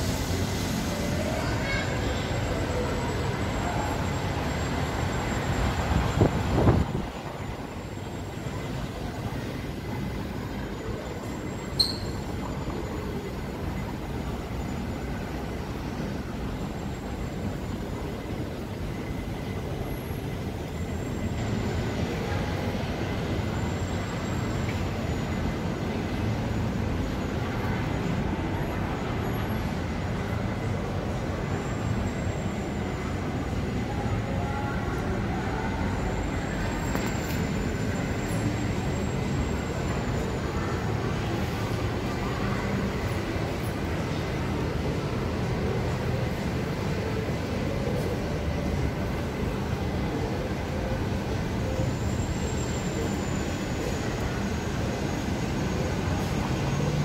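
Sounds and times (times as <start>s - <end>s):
city traffic hum: 0.0s - 57.0s.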